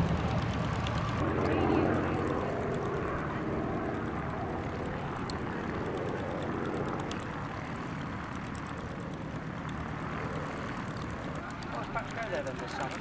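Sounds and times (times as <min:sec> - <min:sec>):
propeller aircraft engine droning: 0:00.0 - 0:13.0.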